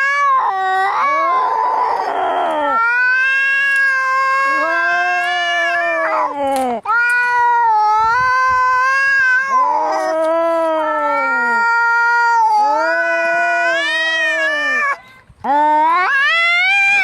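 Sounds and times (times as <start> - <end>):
cats yowling in a fight: 0.0 - 15.0, 15.8 - 17.0.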